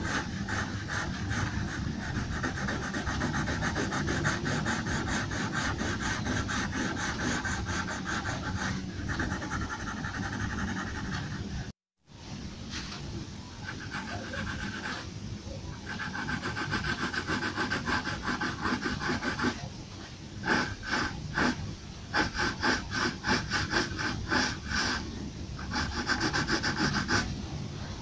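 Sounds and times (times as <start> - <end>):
pencil scratching on paper: 0.0 - 11.7, 13.6 - 15.1, 15.7 - 19.7, 20.4 - 27.3.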